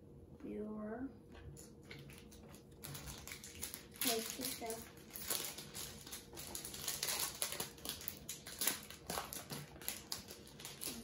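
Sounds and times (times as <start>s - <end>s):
plastic foil wrapper crinkling: 1.6s - 11.0s.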